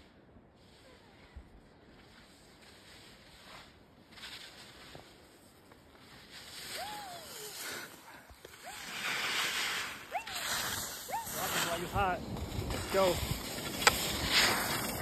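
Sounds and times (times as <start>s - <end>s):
skis scraping over snow: 0.6s - 15.0s.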